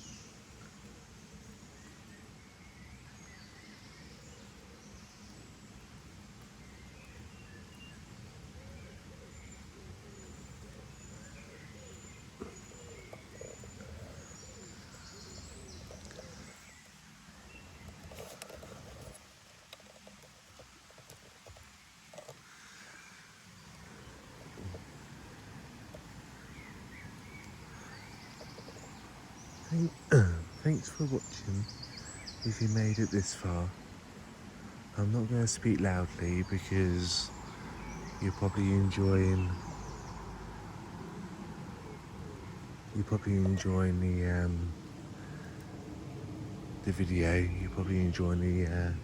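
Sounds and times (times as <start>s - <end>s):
birds calling: 0.0s - 49.0s
soft hiss: 0.0s - 49.0s.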